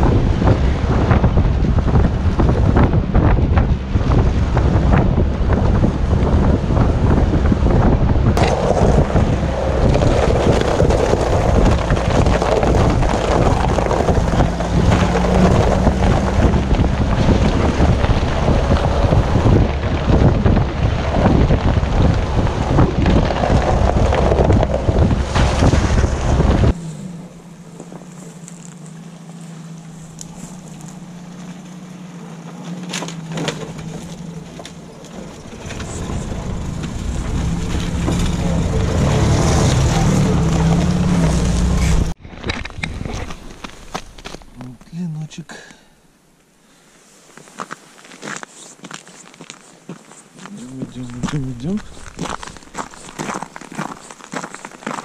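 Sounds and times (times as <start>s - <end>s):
wind buffeting microphone: 0.0s - 28.2s, 33.8s - 44.6s, 49.9s - 55.0s
road noise rumble: 0.0s - 55.0s.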